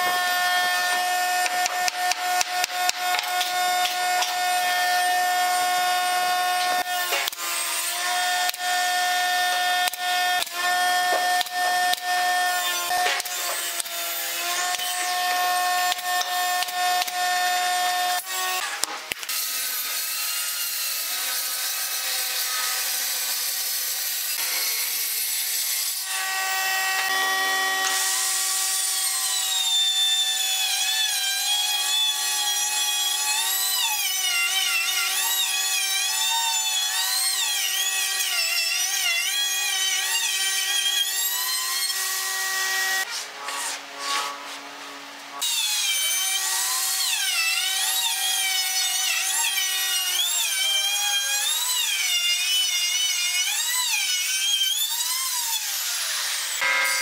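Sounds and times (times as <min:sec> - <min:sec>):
circular saw cutting wood: 0:00.0 - 0:57.0
router cutting wood: 0:00.0 - 0:57.0.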